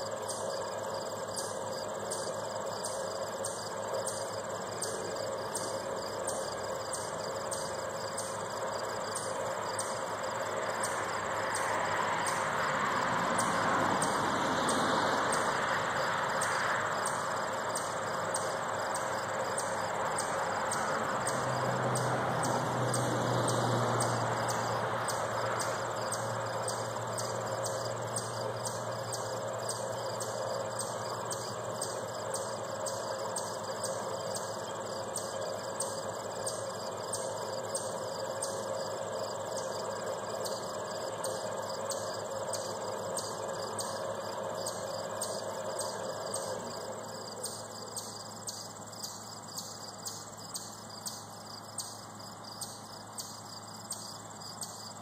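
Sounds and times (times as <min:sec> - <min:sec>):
insects chirping: 0:00.0 - 0:55.0
passing vehicle: 0:02.9 - 0:55.0.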